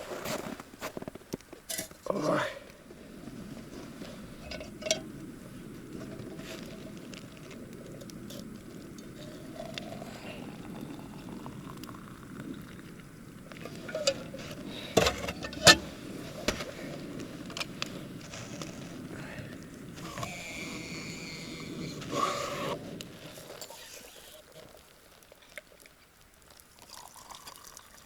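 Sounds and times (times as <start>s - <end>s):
campfire hissing and crackling: 0.0s - 28.0s.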